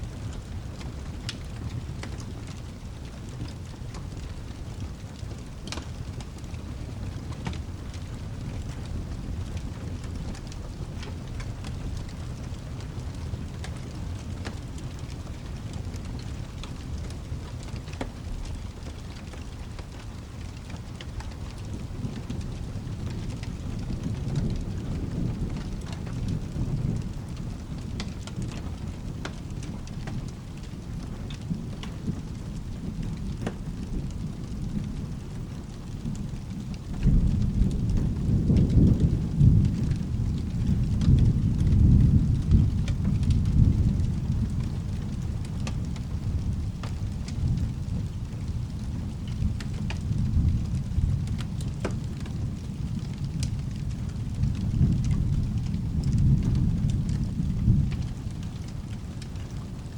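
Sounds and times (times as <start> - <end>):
rolling thunder rumble: 0.0 - 59.9
steady rain: 0.0 - 59.9.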